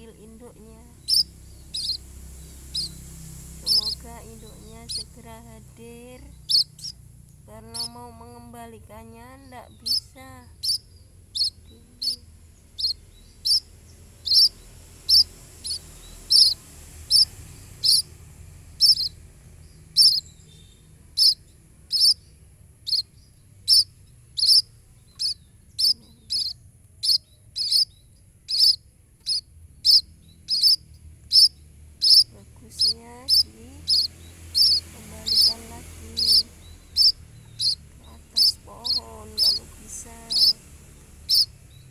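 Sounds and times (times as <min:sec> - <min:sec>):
bird chick chirping: 0:00.0 - 0:07.0, 0:07.6 - 0:08.2, 0:09.1 - 0:41.9.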